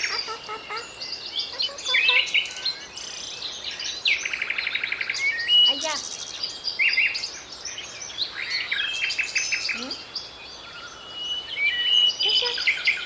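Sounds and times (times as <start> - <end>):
budgerigars chirping and warbling: 0.0 - 6.2, 6.8 - 13.0.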